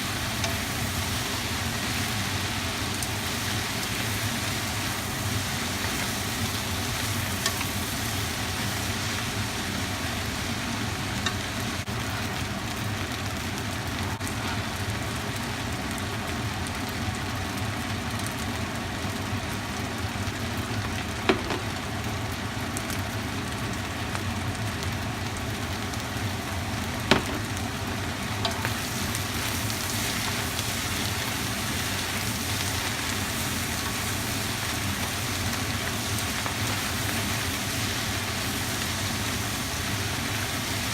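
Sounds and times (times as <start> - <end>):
food sizzling in a hot pan: 0.0 - 40.9.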